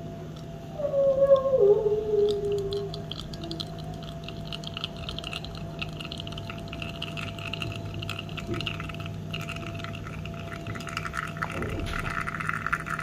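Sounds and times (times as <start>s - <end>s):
espresso machine pump humming: 1.2s - 13.0s.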